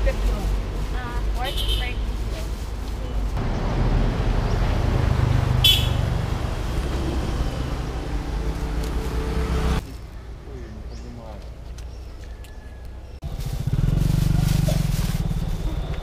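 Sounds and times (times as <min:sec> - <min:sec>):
engine low rumble: 0:00.0 - 0:16.0.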